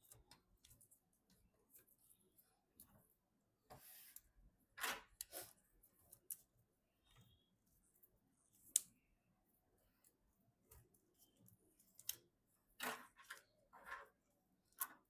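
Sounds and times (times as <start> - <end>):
soft rustling of hardware parts: 0.0 - 15.0.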